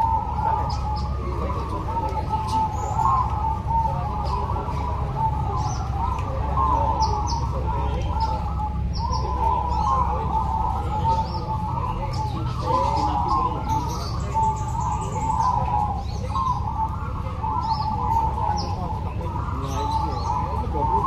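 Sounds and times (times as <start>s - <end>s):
doves cooing: 0.0s - 21.0s
small birds chirping: 0.0s - 21.0s.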